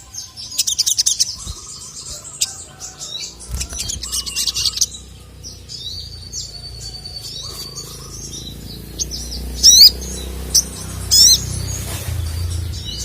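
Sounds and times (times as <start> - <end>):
loud rising bird chirps: 0.0 - 13.0
sunbird chirping: 0.0 - 13.0.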